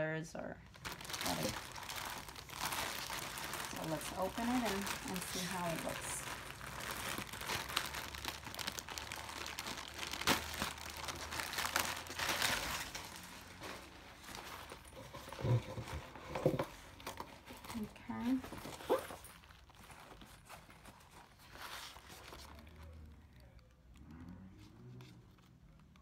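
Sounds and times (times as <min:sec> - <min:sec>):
plastic bag crinkling and rustling: 0:00.6 - 0:24.0.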